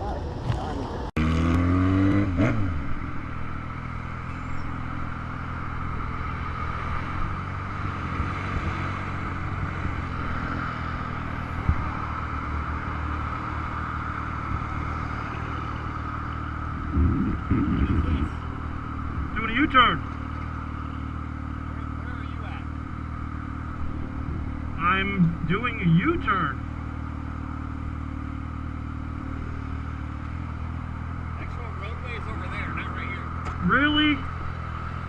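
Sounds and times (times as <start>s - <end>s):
motorcycle engine: 0.0s - 35.0s
road and wind noise: 0.0s - 35.0s.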